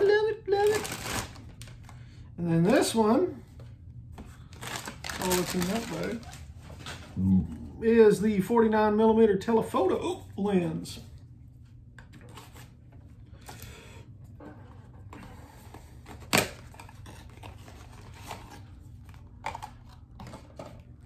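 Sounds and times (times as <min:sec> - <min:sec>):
steady low hum: 0:01.3 - 0:21.0.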